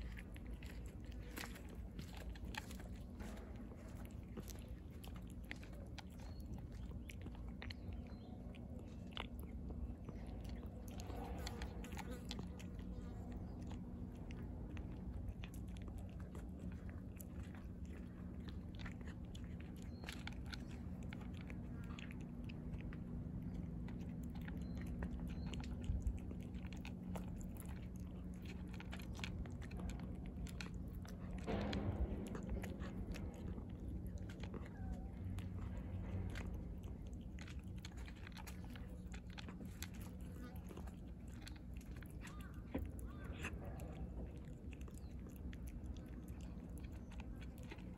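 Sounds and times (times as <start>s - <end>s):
cat chewing and crunching kibble: 0.0s - 47.9s
steady low hum: 0.0s - 47.9s.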